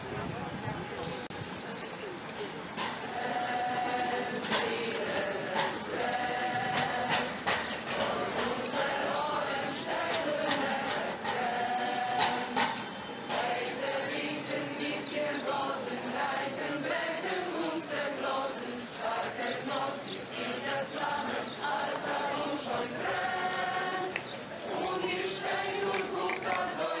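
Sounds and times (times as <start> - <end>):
choir singing: 2.8 - 27.0.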